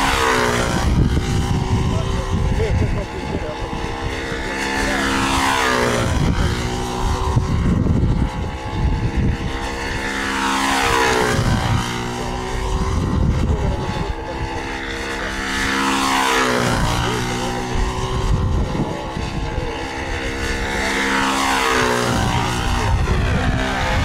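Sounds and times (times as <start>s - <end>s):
model airplane engine at full power: 0.0s - 24.0s.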